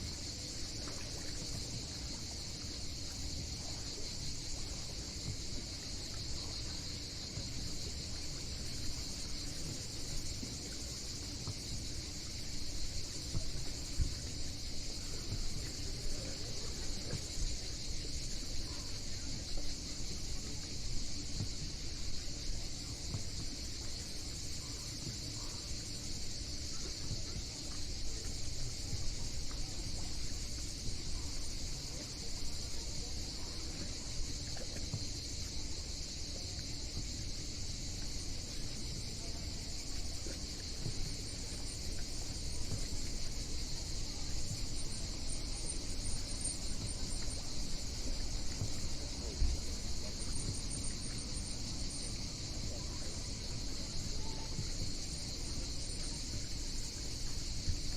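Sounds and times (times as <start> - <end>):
shrill insect chorus: 0.0 - 57.9.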